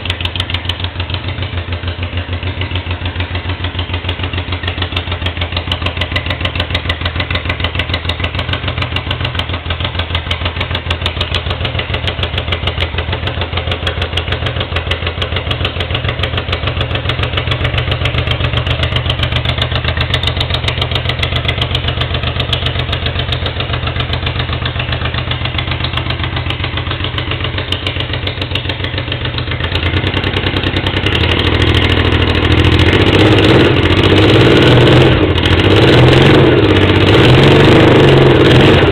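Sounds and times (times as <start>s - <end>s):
motorcycle engine idling: 0.0s - 37.2s.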